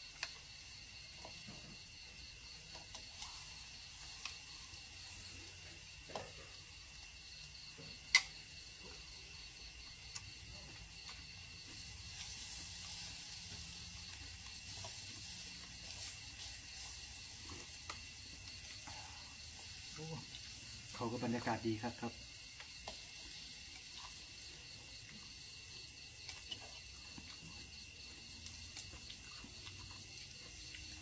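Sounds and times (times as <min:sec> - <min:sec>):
meat sizzling on grill: 0:00.0 - 0:31.0
pulsing insect chorus: 0:00.0 - 0:31.0.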